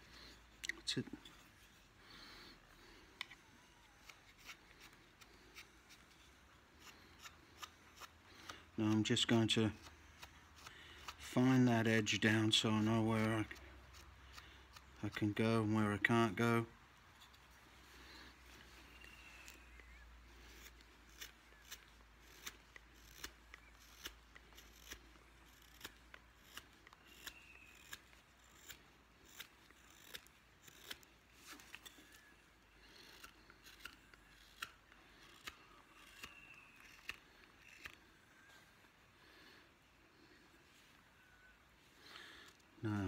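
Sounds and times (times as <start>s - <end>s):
knife cutting wood: 0.2s - 15.8s, 17.1s - 38.2s.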